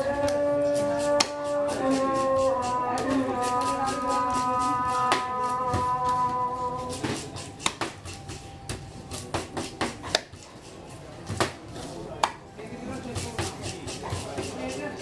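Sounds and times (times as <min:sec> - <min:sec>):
knife chopping on wooden block: 0:00.2 - 0:06.2, 0:06.8 - 0:15.0.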